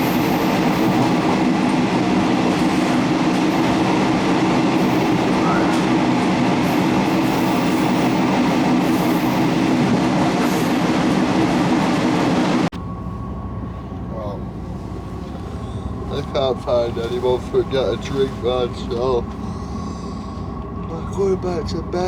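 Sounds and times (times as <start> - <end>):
train rumble and rattle: 0.0 - 22.0.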